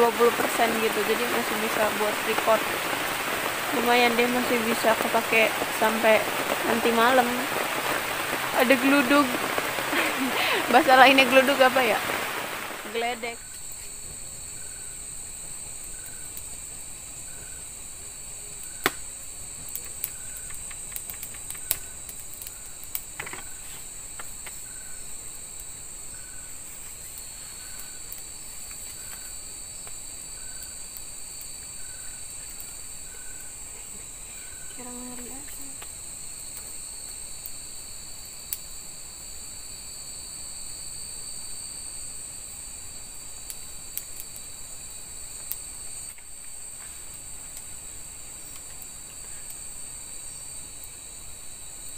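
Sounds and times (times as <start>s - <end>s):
campfire crackling: 0.0s - 51.9s
night insects trilling: 0.0s - 51.9s.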